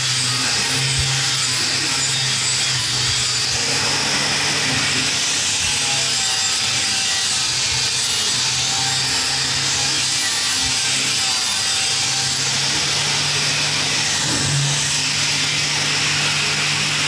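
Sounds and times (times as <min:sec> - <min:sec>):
angle grinder grinding steel: 0:00.0 - 0:17.0.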